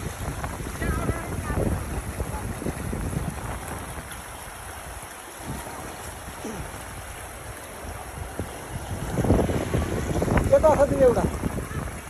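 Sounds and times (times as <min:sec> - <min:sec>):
river rushing: 0:00.0 - 0:12.0
wind buffeting microphone: 0:00.0 - 0:12.0.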